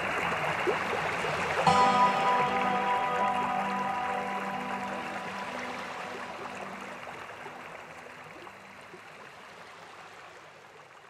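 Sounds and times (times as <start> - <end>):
soft background music: 0.0 - 9.3
running water: 0.0 - 11.0.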